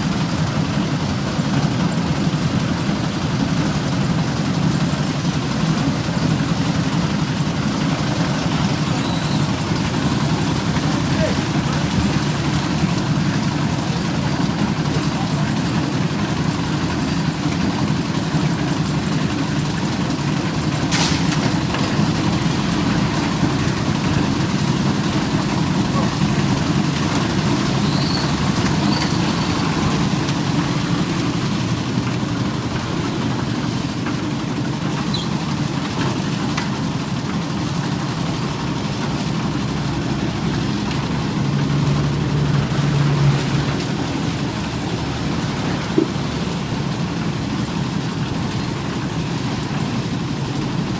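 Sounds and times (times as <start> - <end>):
concrete mixer turning: 0.0 - 50.9
diesel engine running: 0.0 - 50.9.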